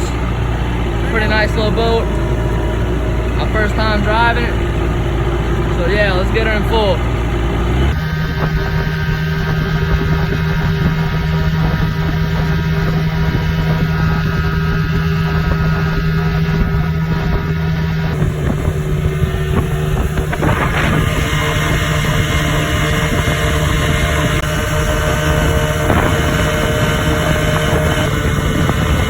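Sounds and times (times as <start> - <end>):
outboard motor running: 0.0 - 29.0
wind buffeting microphone: 0.0 - 29.0.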